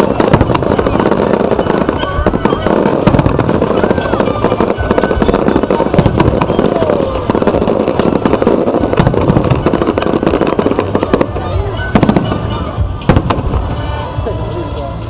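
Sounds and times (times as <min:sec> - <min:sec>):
fireworks crackling and popping: 0:00.0 - 0:15.0
fireworks rumble: 0:00.0 - 0:15.0.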